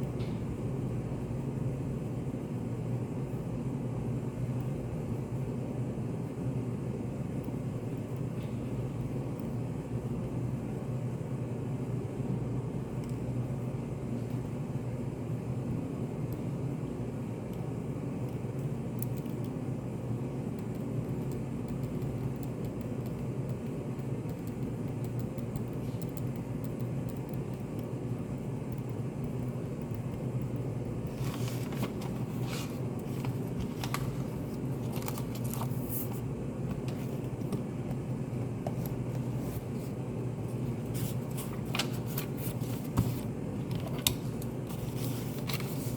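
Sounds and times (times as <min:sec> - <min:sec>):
steady low room hum: 0:00.0 - 0:45.9.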